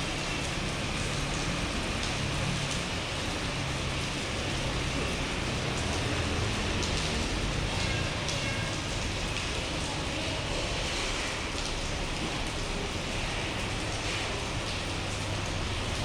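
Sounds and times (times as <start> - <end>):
faint raindrop ticks: 0.0 - 16.0
steady rain hiss: 0.0 - 16.0.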